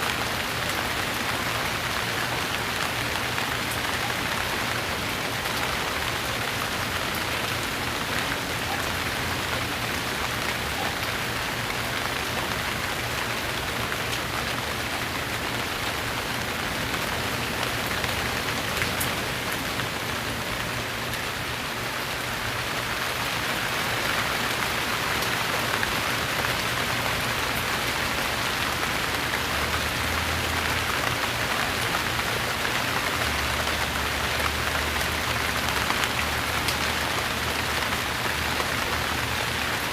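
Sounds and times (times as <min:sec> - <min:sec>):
raindrops pattering on a surface: 0:00.0 - 0:39.9
steady rain falling: 0:00.0 - 0:39.9.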